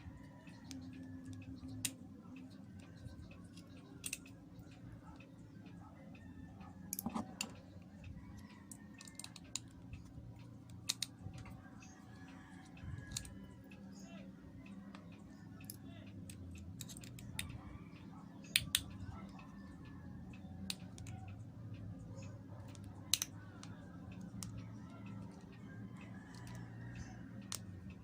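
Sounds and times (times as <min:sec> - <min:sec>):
small parts clicking and tapping: 0:00.0 - 0:28.0.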